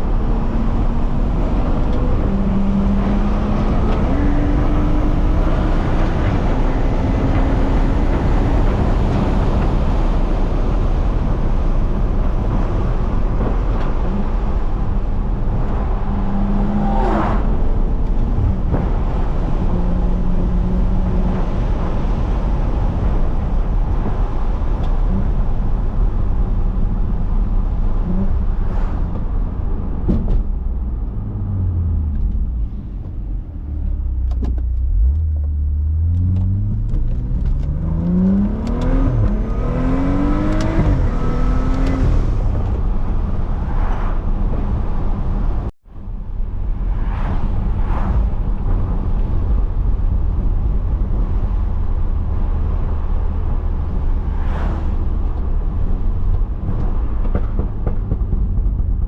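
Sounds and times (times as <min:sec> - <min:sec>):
car engine revving and droning: 0:00.0 - 0:59.0.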